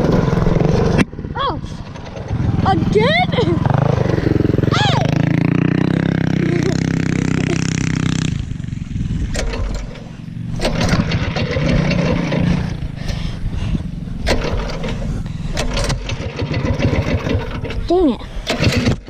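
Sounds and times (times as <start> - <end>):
minibike engine running: 0.0 - 19.0.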